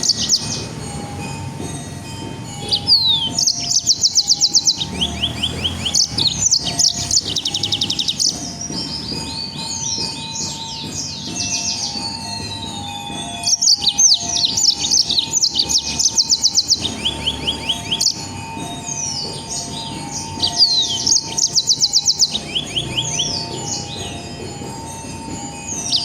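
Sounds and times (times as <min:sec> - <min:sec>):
songbird whistling and rattling: 0:00.0 - 0:01.4, 0:02.2 - 0:26.0.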